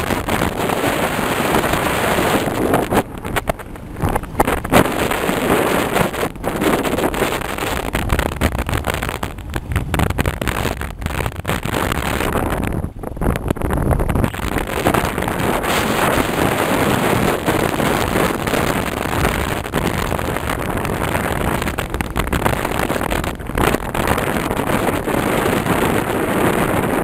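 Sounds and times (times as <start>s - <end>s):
vehicle engine and road rumble: 0.0s - 27.0s
wind rushing over microphone: 0.0s - 27.0s.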